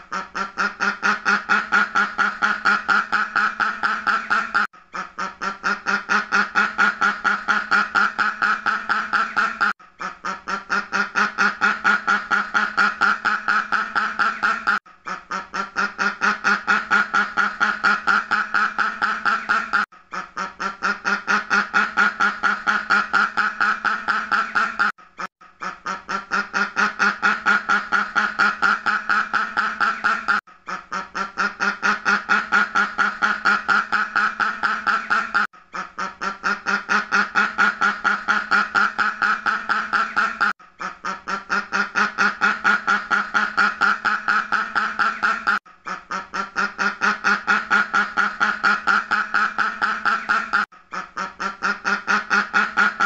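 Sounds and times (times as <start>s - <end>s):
duck quacking: 0.0s - 24.9s, 25.6s - 53.0s.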